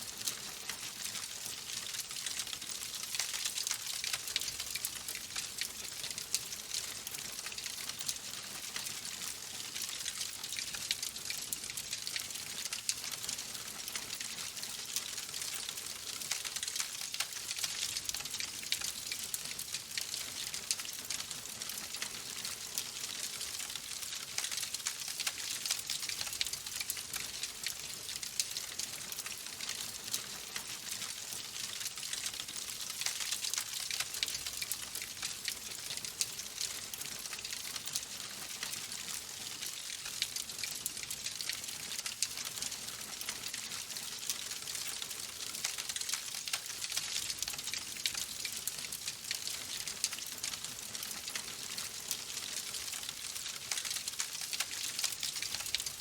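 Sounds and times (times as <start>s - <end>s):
logs crackling in fireplace: 0.2s - 50.5s, 51.1s - 56.0s.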